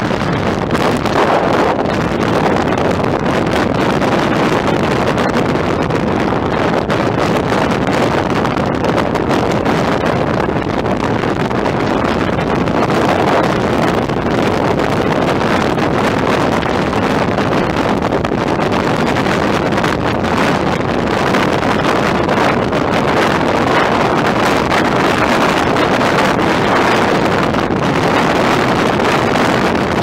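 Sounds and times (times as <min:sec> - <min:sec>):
vehicle road noise: 0:00.0 - 0:30.0
wind buffeting microphone: 0:00.0 - 0:30.0.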